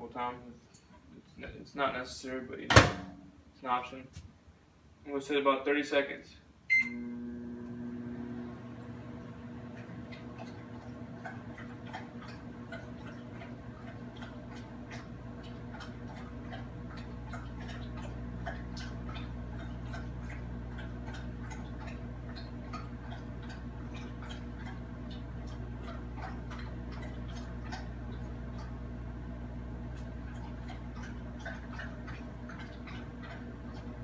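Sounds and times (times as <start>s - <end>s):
microwave oven humming: 6.7s - 34.0s.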